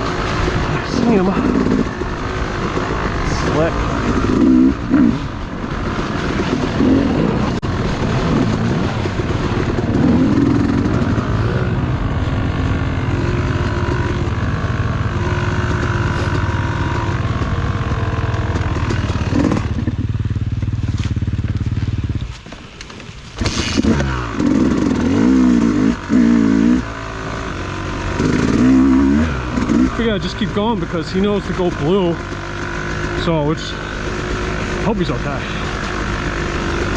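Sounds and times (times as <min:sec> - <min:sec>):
dirt bike engine revving: 0:00.0 - 0:22.2, 0:23.4 - 0:36.9.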